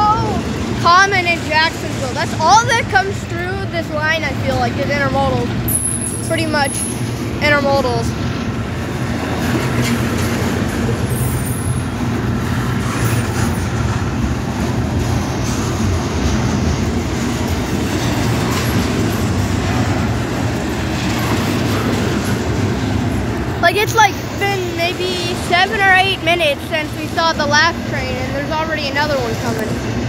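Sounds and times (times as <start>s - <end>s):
freight train wheels on rail: 0.0s - 30.0s
train cars rattling: 0.0s - 30.0s.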